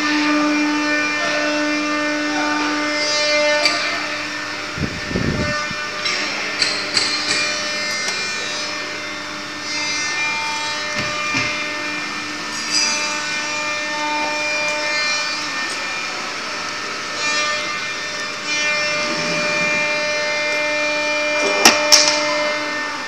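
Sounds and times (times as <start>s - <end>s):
router spindle whine: 0.0s - 23.0s
router bit rasping through wood: 0.6s - 23.0s.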